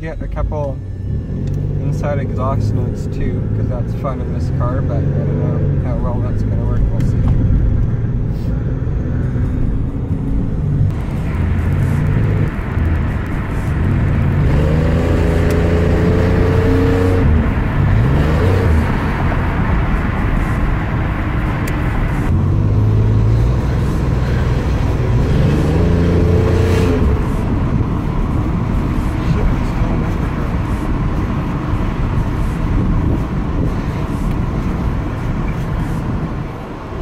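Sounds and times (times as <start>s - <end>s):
car engine and exhaust: 0.0s - 37.0s.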